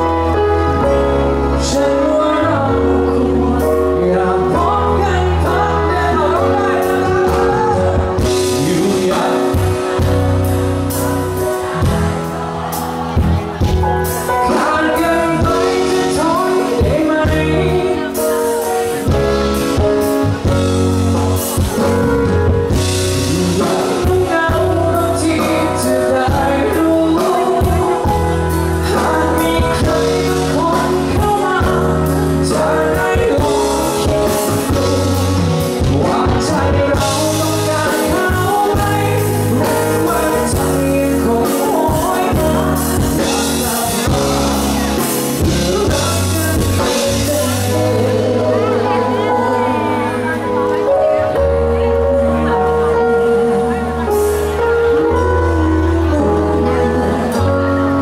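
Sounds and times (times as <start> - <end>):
man singing: 0.0 - 58.0
pop-rock band playing: 0.0 - 58.0.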